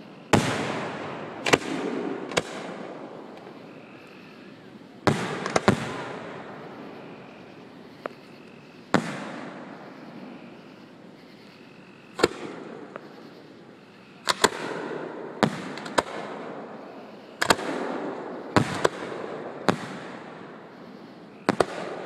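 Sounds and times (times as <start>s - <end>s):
fireworks bursting: 0.0s - 10.9s, 12.1s - 13.6s, 14.2s - 22.0s.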